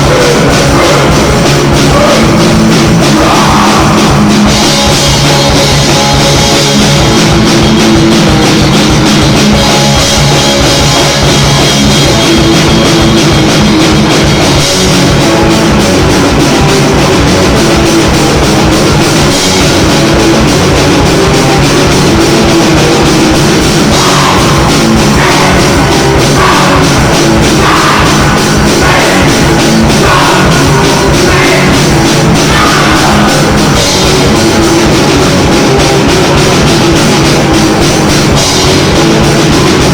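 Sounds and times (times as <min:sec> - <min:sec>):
drum kit: 0:00.0 - 0:39.9
rock band playing loudly: 0:00.0 - 0:39.9.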